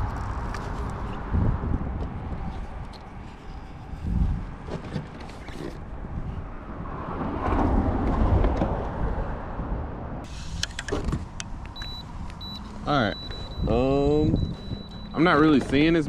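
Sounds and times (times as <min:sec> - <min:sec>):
wind buffeting microphone: 0:00.0 - 0:12.6, 0:13.2 - 0:15.1.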